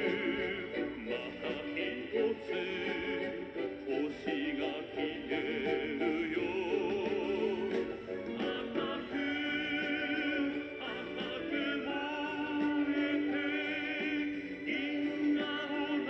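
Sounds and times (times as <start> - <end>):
children's choir singing: 0.0 - 16.0
song played from cassette: 0.0 - 16.0.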